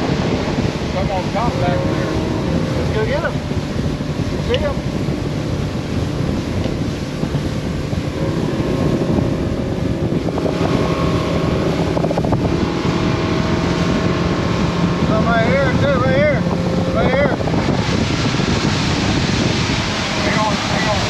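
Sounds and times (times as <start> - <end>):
boat motor running: 0.0 - 21.0
wind buffeting microphone: 0.0 - 21.0.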